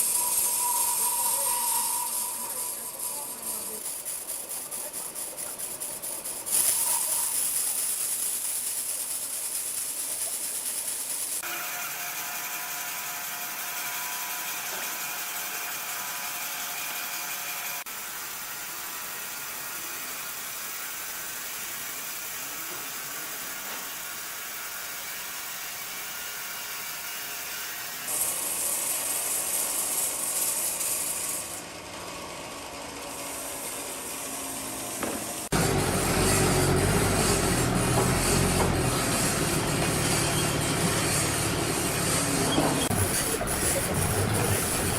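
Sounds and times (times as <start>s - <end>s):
saw cutting through timber: 0.0s - 7.8s, 11.4s - 44.9s.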